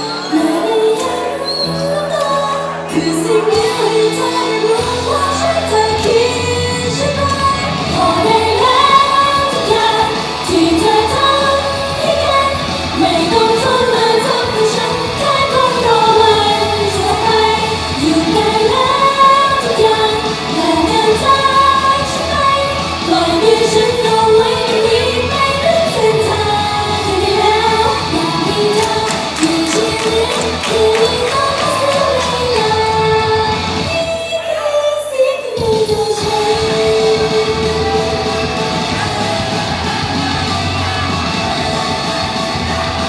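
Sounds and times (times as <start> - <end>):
live pop music with female singing: 0.0 - 43.0.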